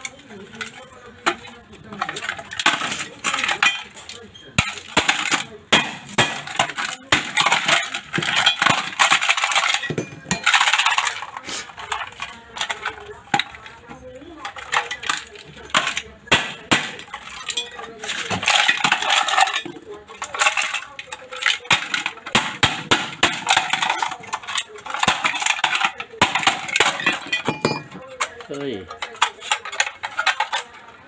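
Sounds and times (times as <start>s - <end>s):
metallic clinks and scraping: 0.0s - 22.6s, 23.2s - 31.0s.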